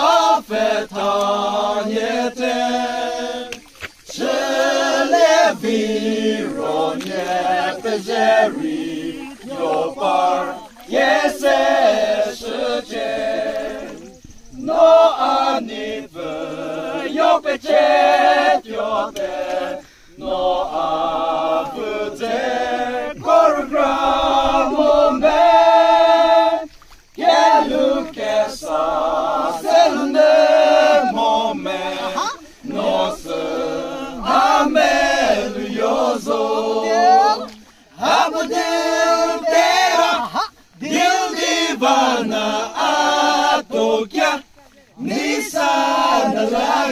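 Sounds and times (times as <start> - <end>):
men singing in chorus: 0.0 - 46.9.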